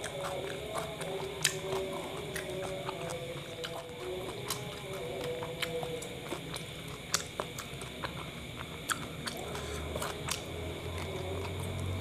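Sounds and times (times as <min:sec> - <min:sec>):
person biting and chewing: 0:00.0 - 0:12.0.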